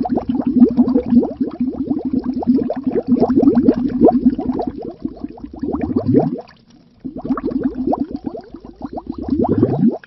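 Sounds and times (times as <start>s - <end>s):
bubbles gurgling underwater: 0.0s - 10.0s.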